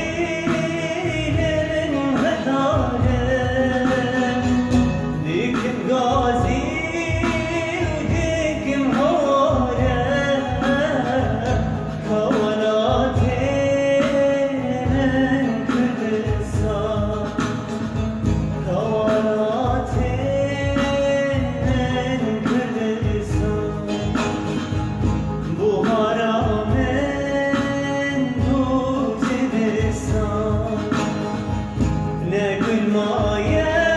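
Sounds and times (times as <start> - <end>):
man singing over a beat: 0.0 - 33.9.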